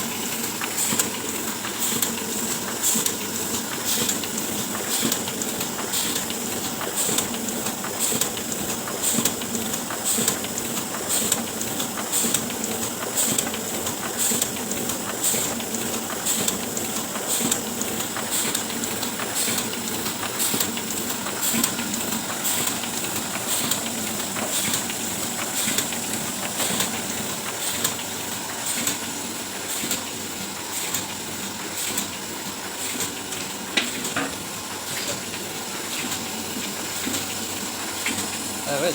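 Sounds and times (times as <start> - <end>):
printing press clattering: 0.1 - 38.9.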